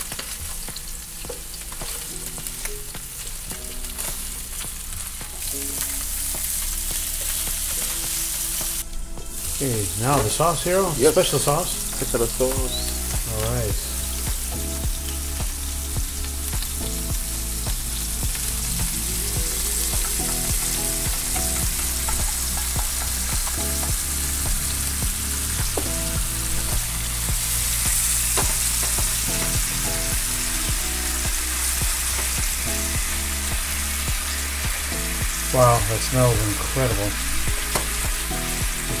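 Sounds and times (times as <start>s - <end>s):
crab meat sizzling in a pan: 0.0s - 39.0s.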